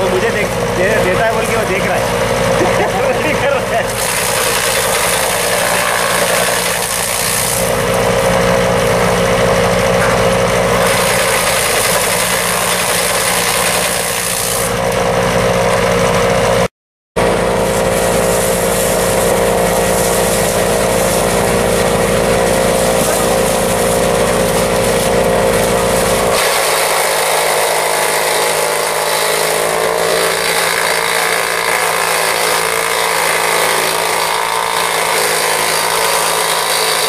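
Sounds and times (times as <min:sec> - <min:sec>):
chaff cutter humming: 0:00.0 - 0:37.0.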